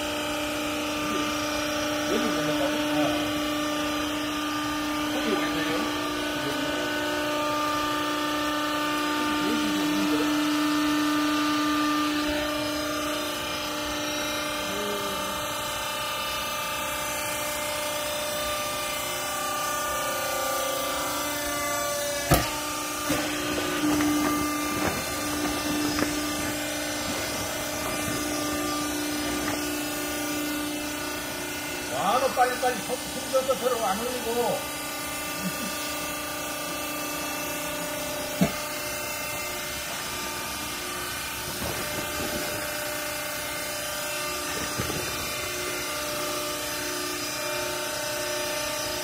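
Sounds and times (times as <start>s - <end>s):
pump and electric motor humming: 0.0s - 49.0s.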